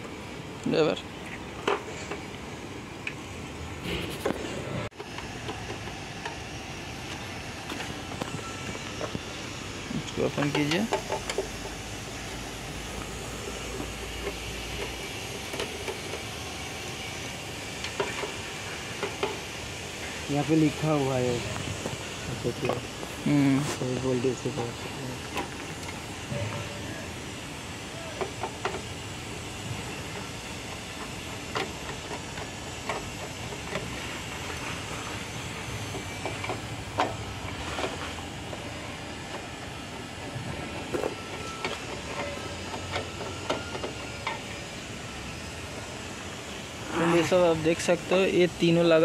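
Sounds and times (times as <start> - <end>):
steady background hiss: 0.0 - 49.0.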